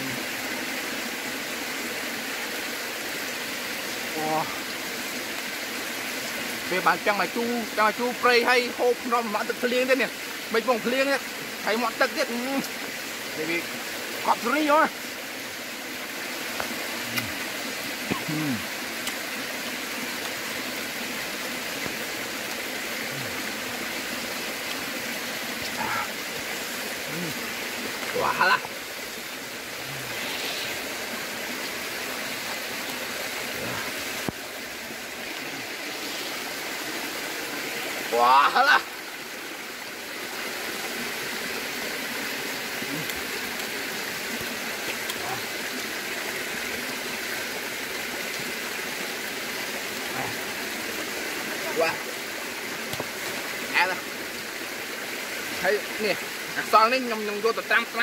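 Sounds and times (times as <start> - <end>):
heavy rain falling: 0.0 - 58.0
rushing water: 0.0 - 58.0.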